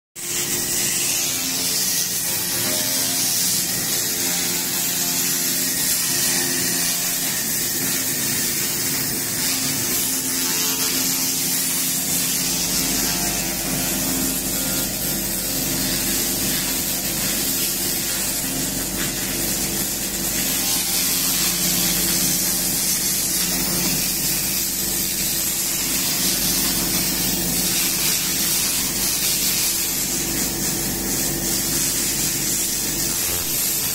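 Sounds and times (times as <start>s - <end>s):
laser cleaning sizzling hiss: 0.2s - 33.9s.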